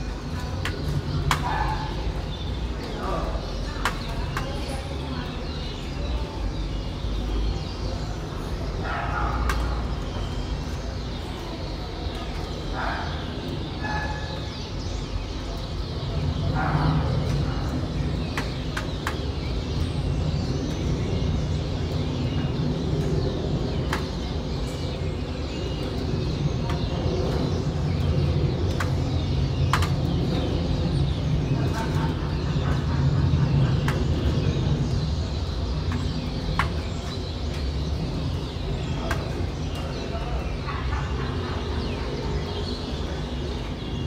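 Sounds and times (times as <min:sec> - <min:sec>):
low rumble of traffic: 0:00.0 - 0:44.0
starlings chattering: 0:00.0 - 0:44.0.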